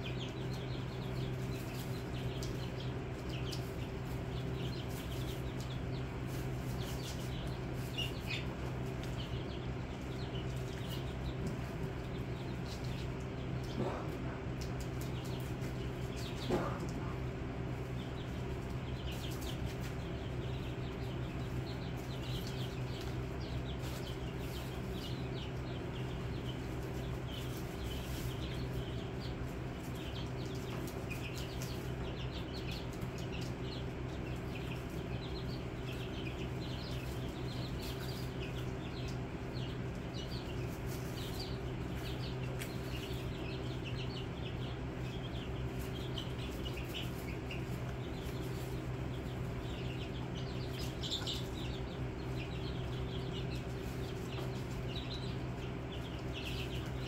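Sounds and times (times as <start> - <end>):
chicks peeping: 0.0 - 57.0
steady low hum: 0.0 - 57.0.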